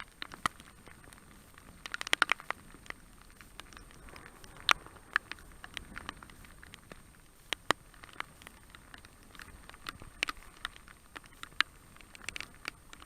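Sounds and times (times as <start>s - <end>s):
faint hiss: 0.0s - 13.0s
raindrops pattering: 0.0s - 13.0s.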